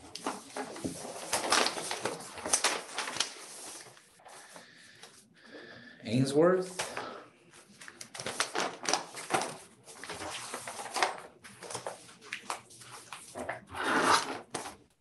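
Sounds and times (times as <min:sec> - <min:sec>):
paper rustling and crackling: 0:00.0 - 0:05.2, 0:06.7 - 0:14.9.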